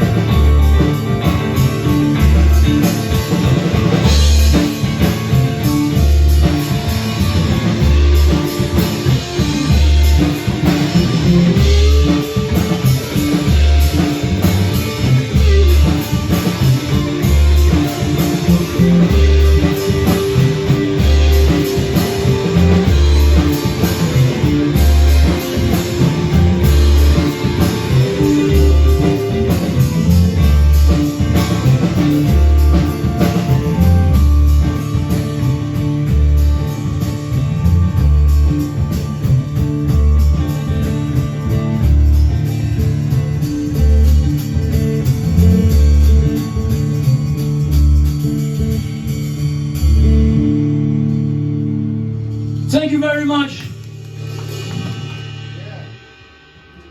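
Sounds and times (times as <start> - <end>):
pulsing bass line: 0.0 - 55.9
live band playing: 0.0 - 56.9.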